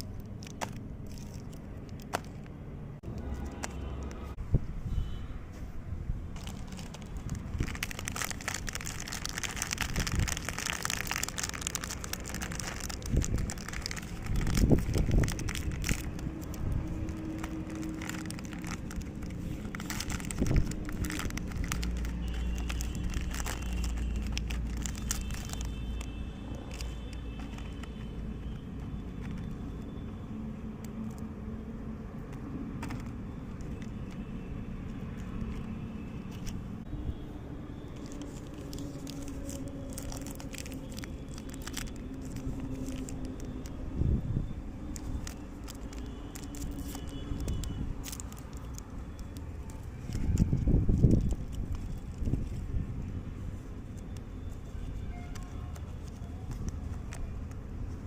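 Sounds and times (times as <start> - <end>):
wrappers crinkling: 0.0 - 2.5, 6.3 - 31.3, 32.4 - 36.8, 37.8 - 58.0.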